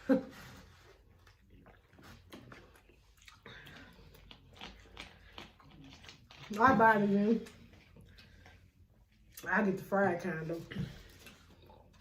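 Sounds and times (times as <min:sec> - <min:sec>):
person chewing: 0:00.0 - 0:09.4, 0:11.0 - 0:12.0.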